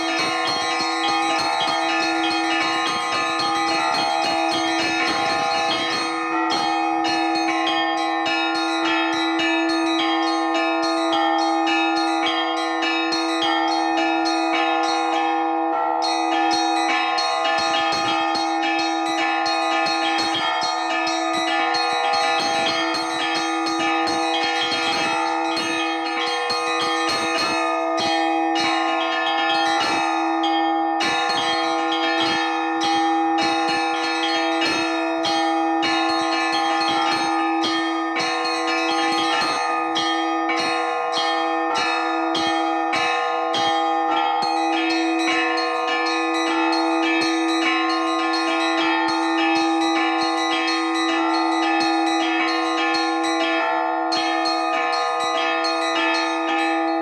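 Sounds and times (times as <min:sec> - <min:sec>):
large church bells ringing: 0:00.0 - 0:57.0
small church bells struck quickly: 0:00.0 - 0:57.0.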